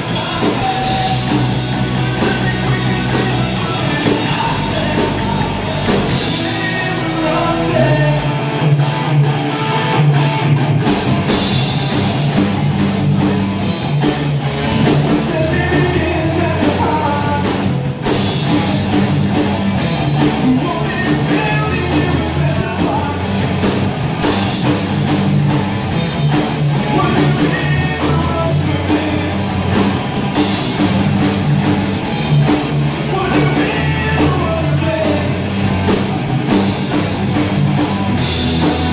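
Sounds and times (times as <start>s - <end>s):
distorted electric guitars: 0.0s - 38.9s
drum kit: 0.0s - 38.9s
live rock band playing: 0.0s - 38.9s.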